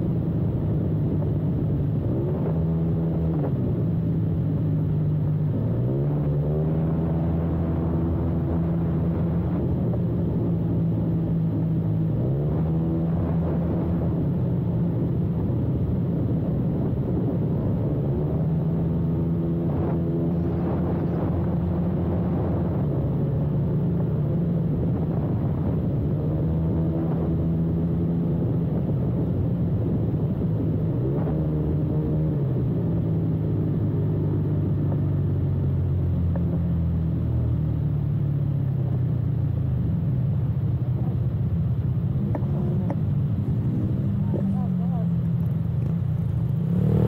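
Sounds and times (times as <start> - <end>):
wind and road rumble: 0.0 - 47.0.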